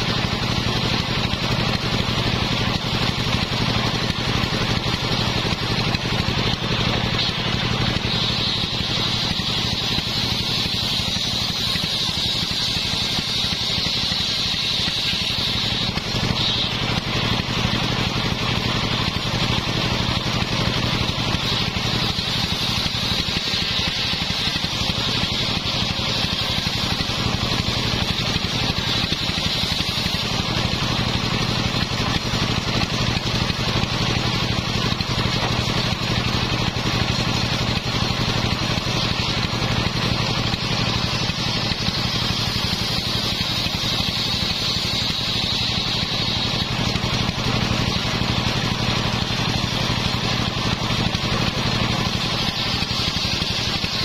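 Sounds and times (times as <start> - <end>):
blade cutting whine: 0.0 - 54.0
circular saw cutting wood: 0.0 - 54.0
motor drone: 0.0 - 54.0.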